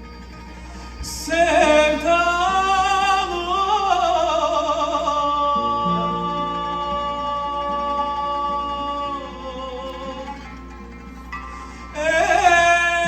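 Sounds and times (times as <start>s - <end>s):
instrumental accompaniment: 0.0s - 13.0s
person singing long melismatic note: 0.0s - 13.0s.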